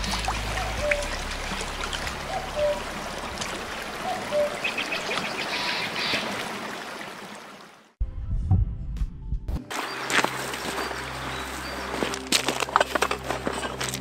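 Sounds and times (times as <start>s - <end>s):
flowing stream water: 0.0s - 8.0s, 9.7s - 14.0s.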